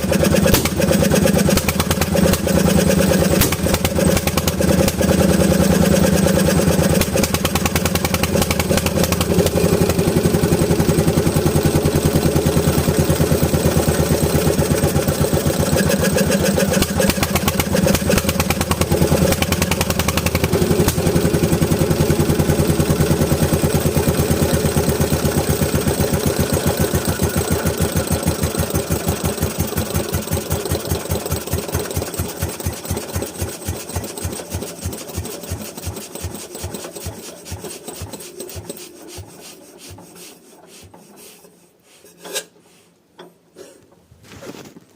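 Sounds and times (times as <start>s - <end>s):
engine running: 0.0s - 39.0s.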